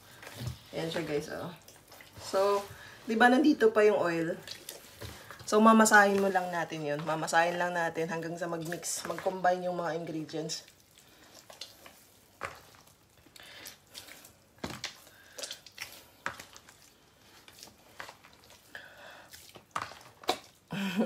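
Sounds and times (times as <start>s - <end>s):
hands kneading wet dough: 0.0s - 21.0s.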